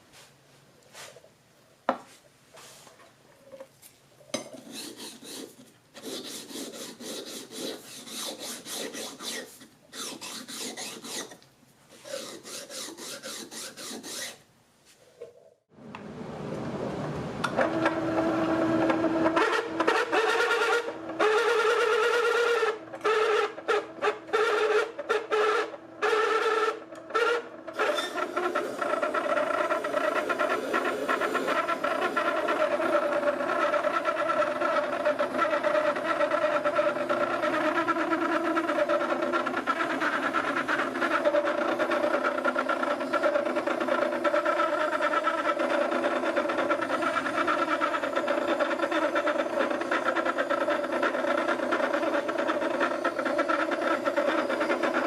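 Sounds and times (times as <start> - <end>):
wet wheel grinder grinding: 4.6 - 14.4, 17.6 - 55.0.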